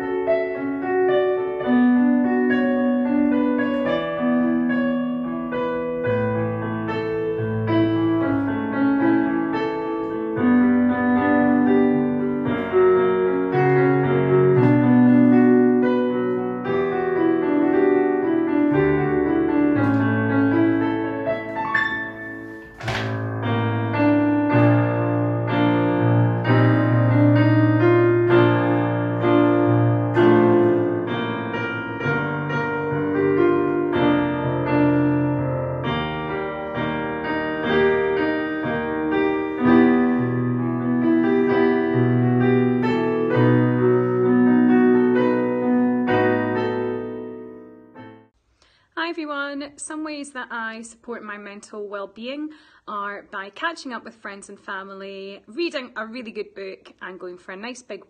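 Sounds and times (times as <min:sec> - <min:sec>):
digital piano chords: 0:00.0 - 0:48.4.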